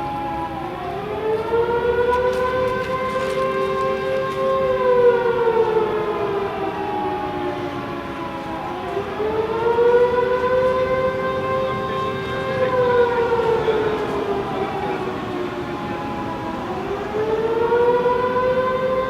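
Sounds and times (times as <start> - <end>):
two-tone alarm siren wailing: 0.0 - 19.0.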